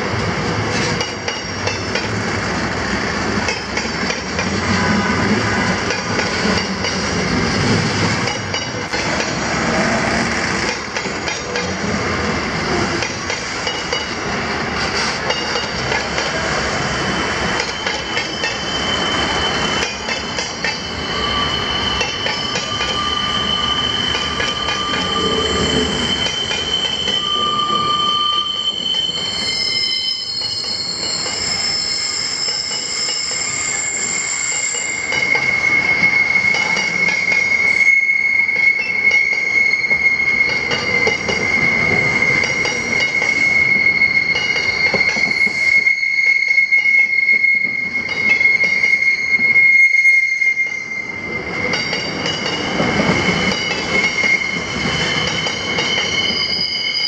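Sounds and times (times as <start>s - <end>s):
train wagons rumbling and clattering: 0.0s - 49.8s, 50.5s - 57.0s
wheels squealing against rails: 0.0s - 57.0s.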